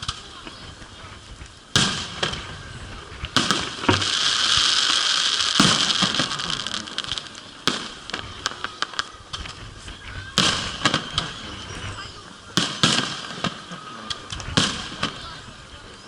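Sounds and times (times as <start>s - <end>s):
firework shells bursting: 0.0s - 15.3s
crackling hissing firework shower: 0.0s - 16.0s.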